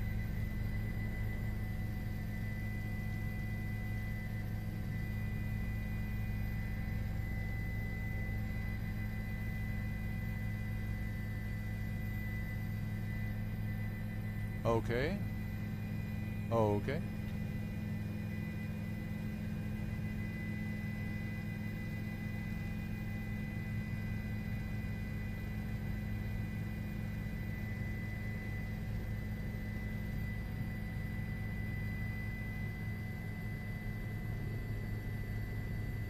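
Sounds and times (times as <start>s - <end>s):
humming vehicle drone: 0.0s - 36.0s.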